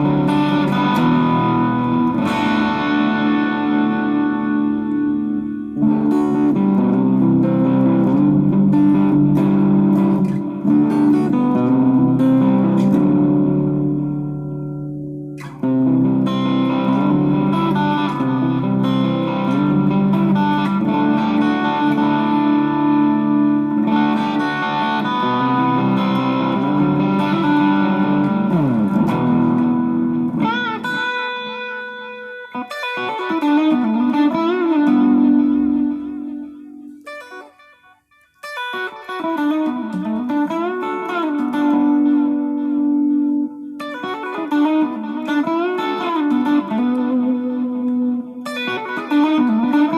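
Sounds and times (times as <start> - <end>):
electric guitar with effects: 0.0 - 49.9.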